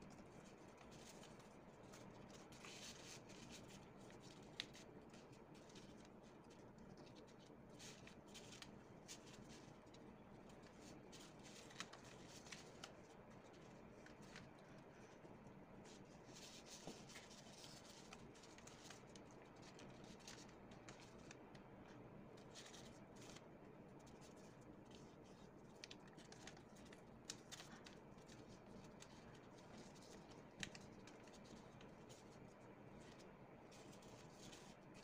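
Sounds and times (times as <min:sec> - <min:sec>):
paper being folded: 0:00.1 - 0:35.0.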